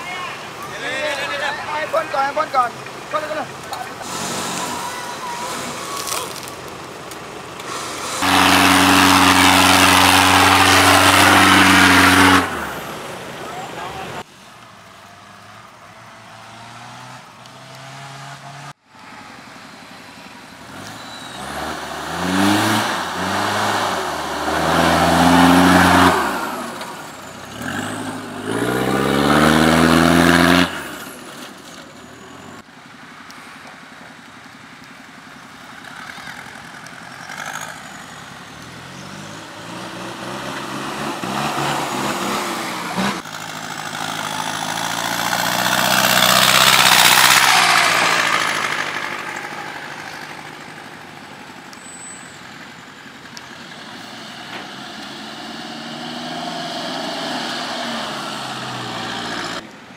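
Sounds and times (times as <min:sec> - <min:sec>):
vehicle engine accelerating: 0:00.7 - 0:14.3, 0:15.0 - 0:18.8, 0:20.5 - 0:31.6, 0:34.2 - 0:59.7.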